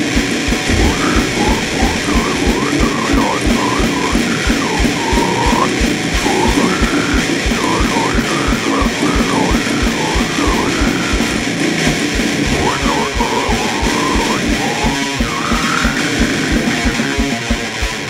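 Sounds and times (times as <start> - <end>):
dense kick-drum beat: 0.0 - 18.0
extreme metal music: 0.0 - 18.0.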